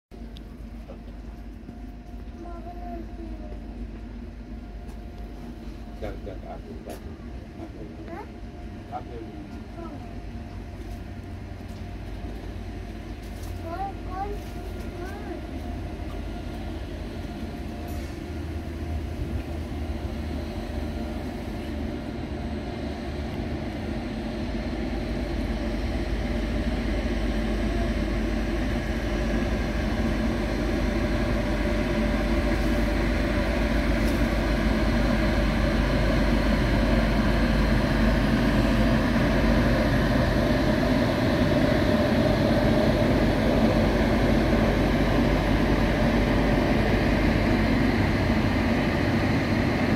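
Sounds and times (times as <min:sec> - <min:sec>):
freight train wheels rumbling on rail: 0:00.1 - 0:49.9.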